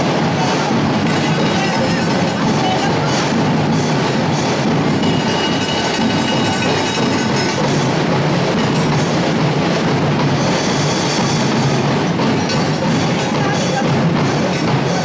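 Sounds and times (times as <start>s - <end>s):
percussion ensemble drumming: 0.0s - 15.0s.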